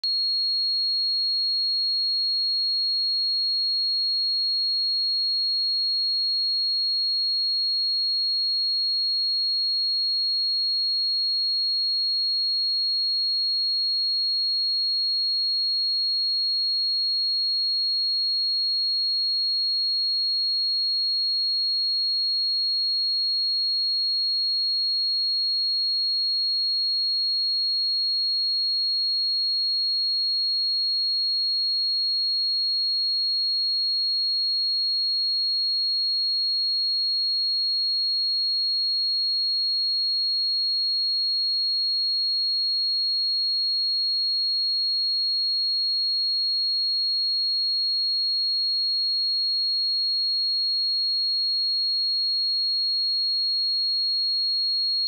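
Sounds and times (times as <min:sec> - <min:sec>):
sine wave test tone: 0:00.0 - 0:55.0.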